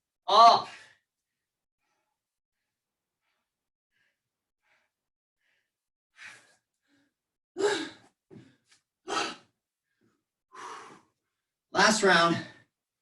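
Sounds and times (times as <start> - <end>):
person breathing hard: 0.7 - 11.4.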